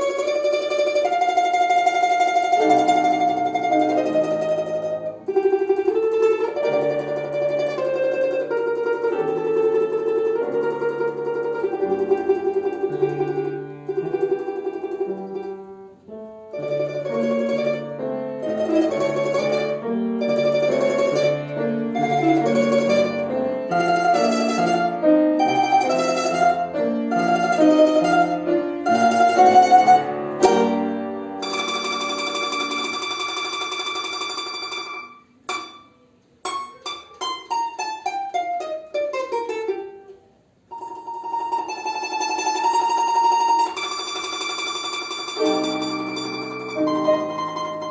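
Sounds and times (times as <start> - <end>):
plucked string instrument melody: 0.0 - 47.9.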